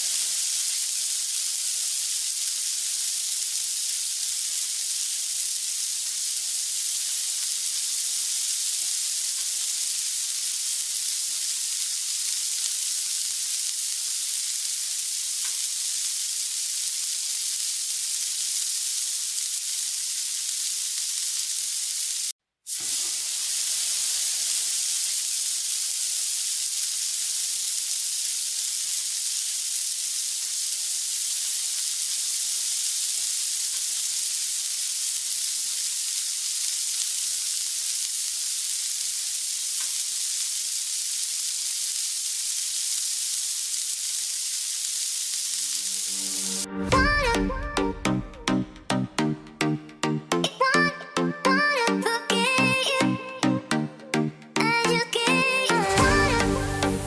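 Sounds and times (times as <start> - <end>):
meat sizzling on a grill: 0.0 - 46.7.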